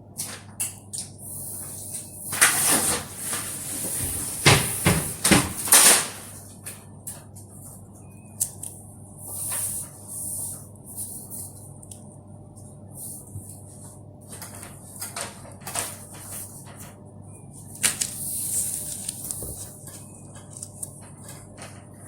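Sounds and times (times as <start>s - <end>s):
steady low hum: 1.1s - 22.0s.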